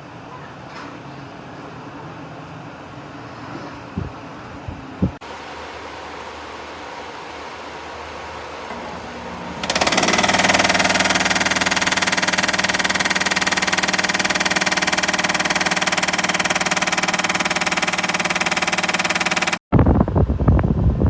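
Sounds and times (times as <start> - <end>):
air conditioner buzzing hum: 0.0 - 19.6.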